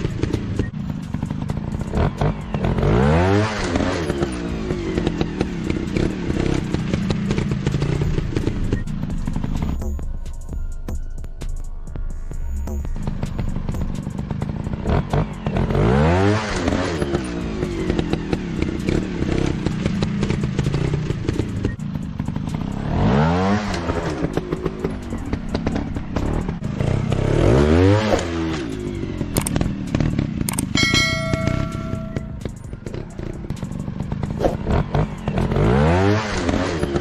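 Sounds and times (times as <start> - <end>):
dirt bike engine revving: 0.0 - 9.8, 13.0 - 37.0.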